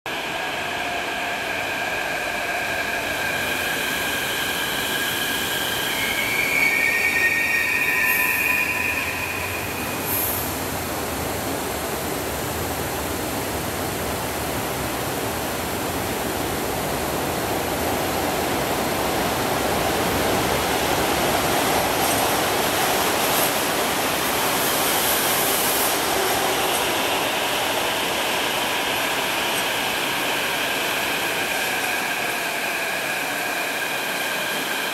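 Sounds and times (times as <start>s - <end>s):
high-pitched train whine: 0.1s - 34.9s
train rumbling past platform: 0.1s - 34.9s.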